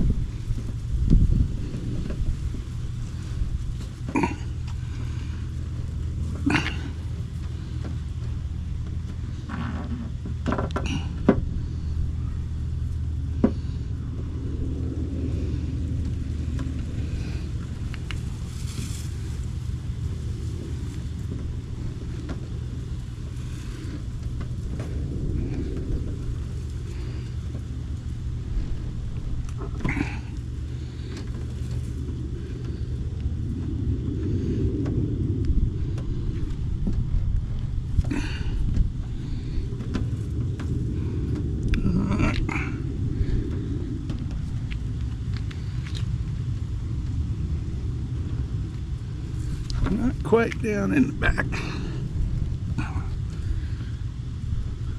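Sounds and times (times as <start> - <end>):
steady low rumble: 0.0 - 54.9.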